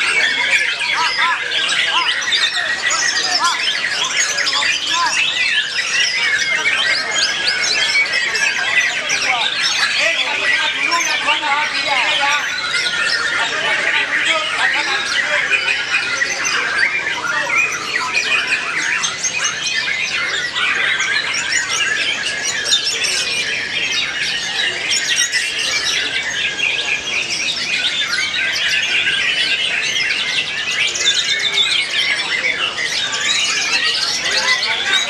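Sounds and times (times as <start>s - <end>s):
bird singing whistles and trills: 0.0s - 35.0s
other birds singing: 0.0s - 35.0s.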